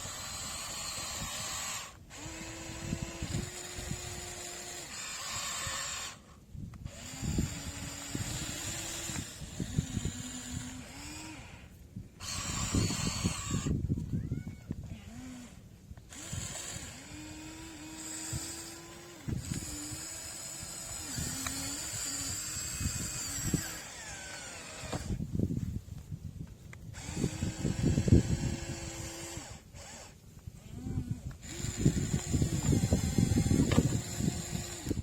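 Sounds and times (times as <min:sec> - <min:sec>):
electric motor whining: 0:00.0 - 0:25.8, 0:26.6 - 0:35.0.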